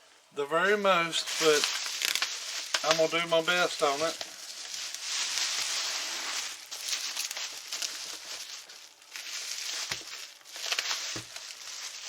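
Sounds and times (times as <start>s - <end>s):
crinkling handling noise: 0.7s - 12.0s.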